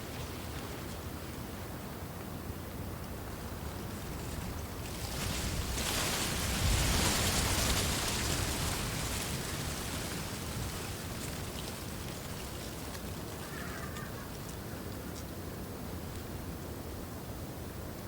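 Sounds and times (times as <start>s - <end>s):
wind rustling reeds: 0.0s - 17.8s
wind rumble on microphone: 0.0s - 18.0s.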